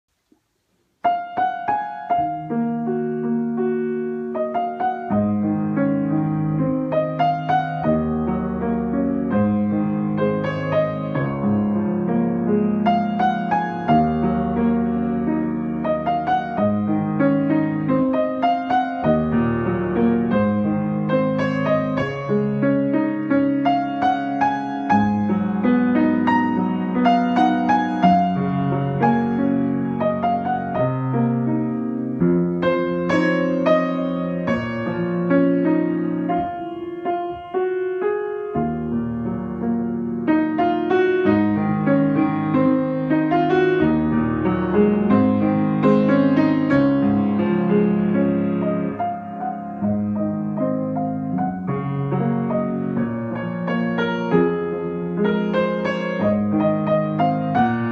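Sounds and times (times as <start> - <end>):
solo grand piano: 0.1 - 57.9.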